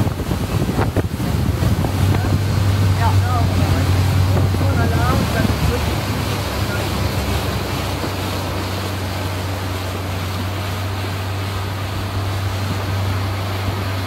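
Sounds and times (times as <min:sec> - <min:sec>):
speedboat engine droning: 0:00.0 - 0:14.0
water and wind rushing: 0:00.0 - 0:14.0.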